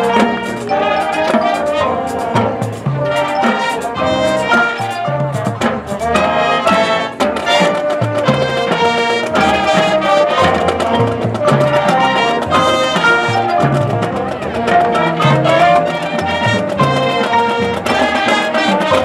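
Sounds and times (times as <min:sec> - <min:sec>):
brass and saxophone chords: 0:00.0 - 0:19.0
mallet percussion: 0:00.0 - 0:19.0.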